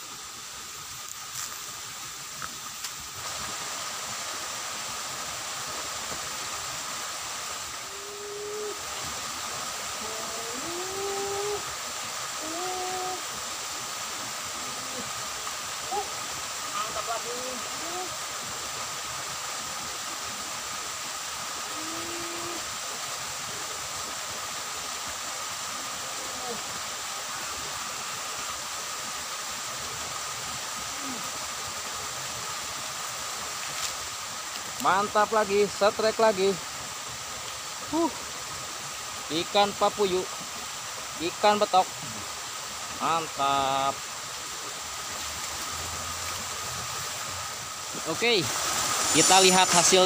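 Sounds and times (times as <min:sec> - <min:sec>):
outdoor ambience hiss: 0:00.0 - 0:50.0
water running in a ditch: 0:00.0 - 0:50.0.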